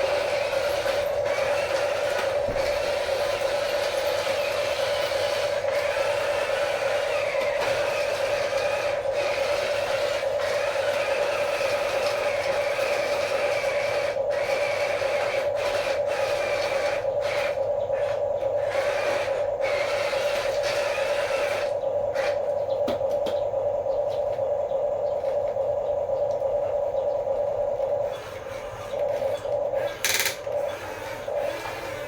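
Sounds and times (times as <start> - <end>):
gears grinding: 0.0 - 22.6, 27.8 - 32.0
toy electric motor whining: 0.0 - 22.6, 28.0 - 32.0.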